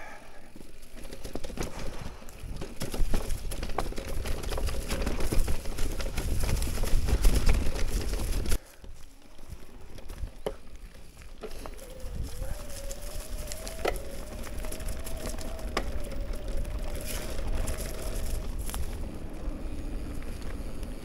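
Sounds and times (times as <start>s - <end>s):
tyres crunching over leaves and stones: 0.4s - 21.0s
bike knocking and rattling: 0.5s - 21.0s.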